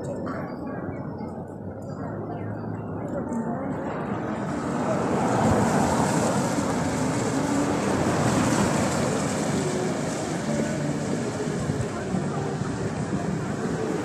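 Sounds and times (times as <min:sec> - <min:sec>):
street traffic rushing: 0:00.0 - 0:14.0.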